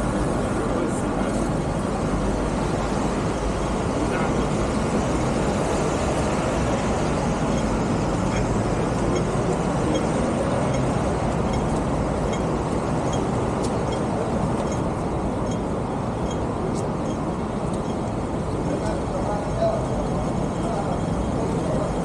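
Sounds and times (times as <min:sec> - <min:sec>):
steady road traffic rumble: 0:00.0 - 0:22.0.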